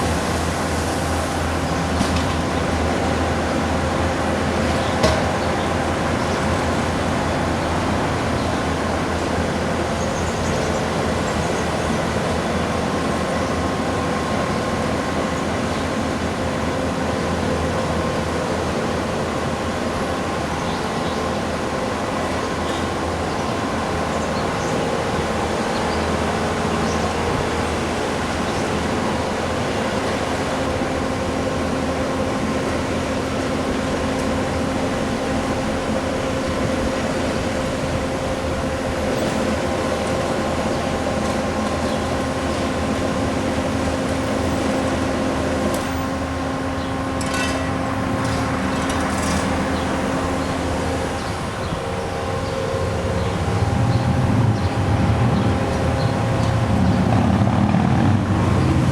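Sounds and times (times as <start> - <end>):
diesel engine drone: 0.0 - 58.9.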